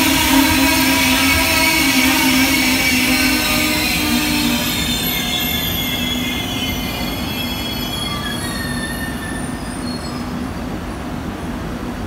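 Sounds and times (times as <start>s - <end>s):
thin high tones: 0.0s - 10.2s
train wheels rumbling on rail: 0.0s - 12.0s.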